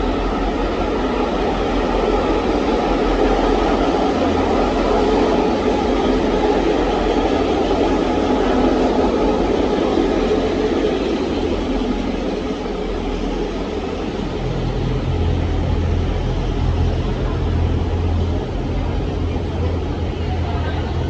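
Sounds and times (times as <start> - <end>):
diesel train rumbling: 0.0 - 21.0.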